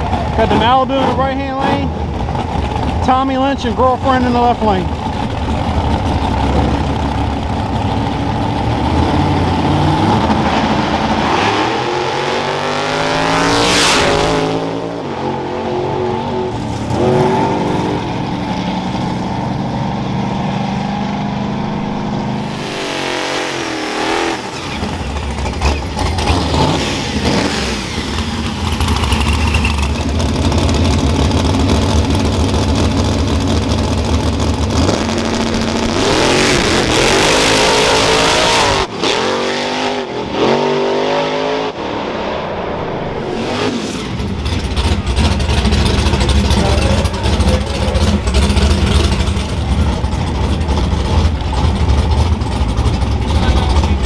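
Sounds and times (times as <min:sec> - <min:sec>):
cars rumbling at idle: 0:00.0 - 0:13.5, 0:14.2 - 0:39.0, 0:43.1 - 0:54.0
drag racing cars revving: 0:00.0 - 0:54.0
cars launching at full throttle: 0:05.0 - 0:19.4, 0:20.7 - 0:31.7, 0:34.2 - 0:54.0.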